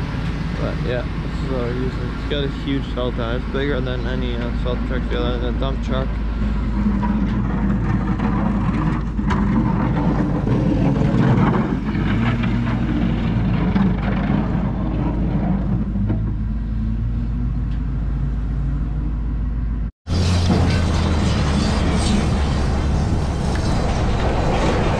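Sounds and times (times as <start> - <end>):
truck engine running: 0.0 - 24.9.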